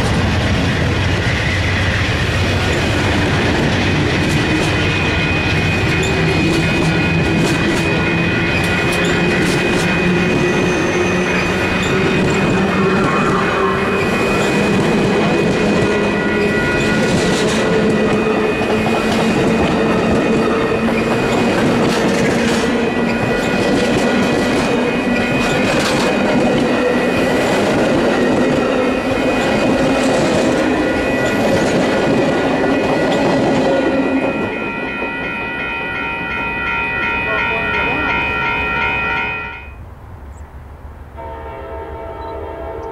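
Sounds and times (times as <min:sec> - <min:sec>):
clickety-clack over rail joints: 0:00.0 - 0:35.6
train wheels rushing on rail: 0:00.0 - 0:39.5.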